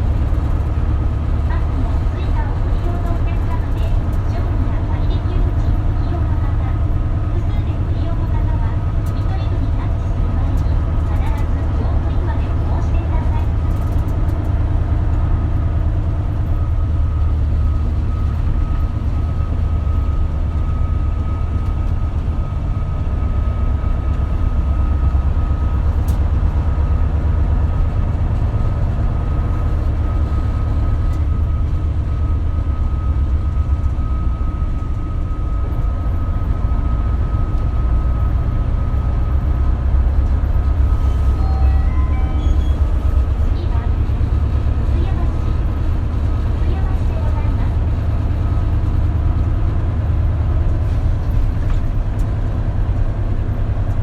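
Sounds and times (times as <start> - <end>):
bus engine drone with whine: 0.0 - 54.0.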